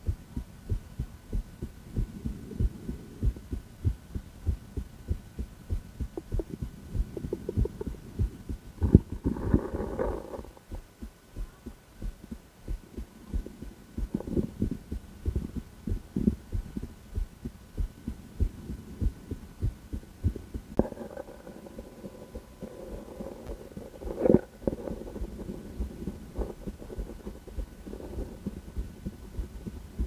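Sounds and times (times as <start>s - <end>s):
heartbeat through stethoscope: 0.0s - 30.0s.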